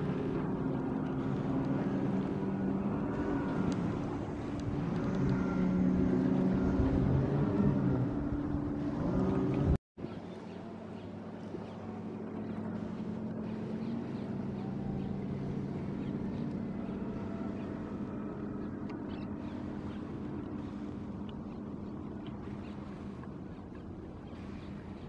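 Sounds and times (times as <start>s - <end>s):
boat motor humming: 0.0s - 25.0s.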